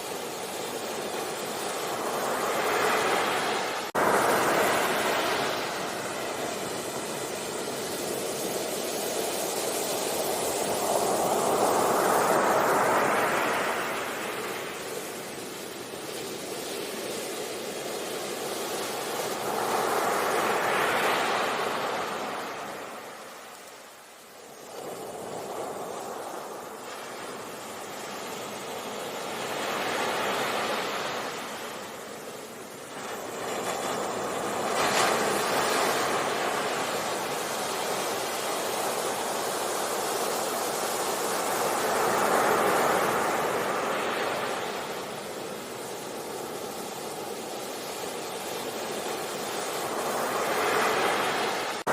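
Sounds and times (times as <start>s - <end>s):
sea waves on a beach: 0.0s - 51.9s.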